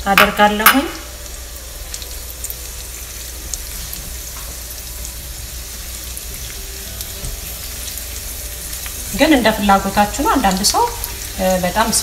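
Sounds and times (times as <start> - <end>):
garlic sizzling in oil: 0.0 - 12.0.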